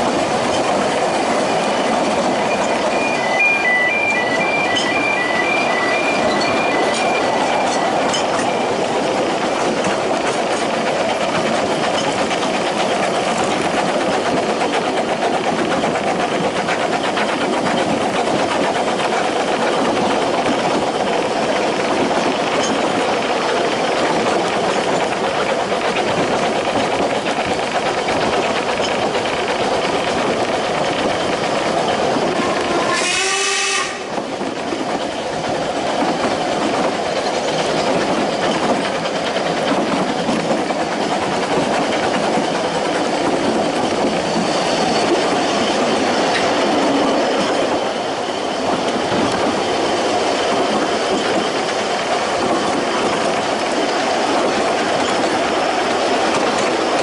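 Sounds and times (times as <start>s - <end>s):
wheels clicking over rail joints: 0.0s - 2.9s, 6.2s - 33.1s, 33.9s - 57.0s
train rumbling along track: 0.0s - 57.0s.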